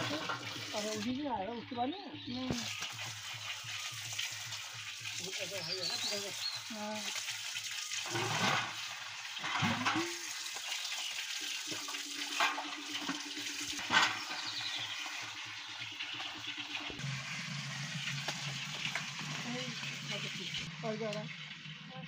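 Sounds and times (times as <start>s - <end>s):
water splashing into copper pot: 0.0s - 1.2s, 2.4s - 22.0s
water running from metal spout: 0.0s - 22.0s.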